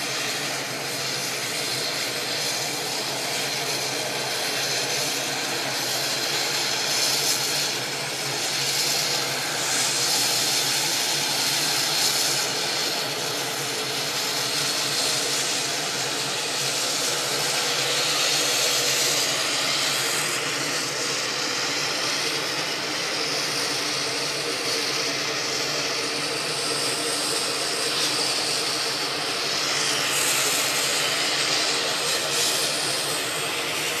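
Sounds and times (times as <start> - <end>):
helicopter turbine engines running: 0.0 - 34.0.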